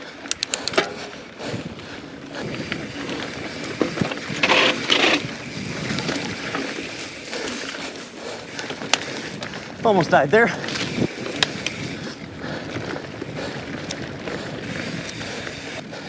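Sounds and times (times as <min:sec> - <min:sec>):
bike tyres rumbling on trail: 0:00.0 - 0:16.0.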